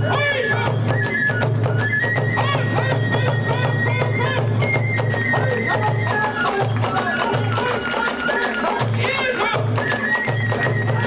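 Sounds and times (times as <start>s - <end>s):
rapid drum beats: 0.0s - 11.0s.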